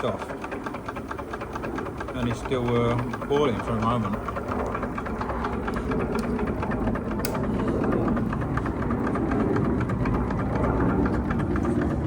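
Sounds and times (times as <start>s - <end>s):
fast fine ticking: 0.0s - 12.0s
toy steam engine running: 0.0s - 12.0s.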